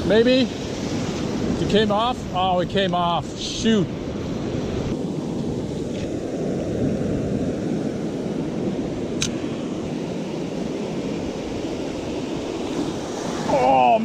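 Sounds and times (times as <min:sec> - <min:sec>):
ocean surf washing in: 0:00.0 - 0:14.0
wind on microphone: 0:00.0 - 0:14.0.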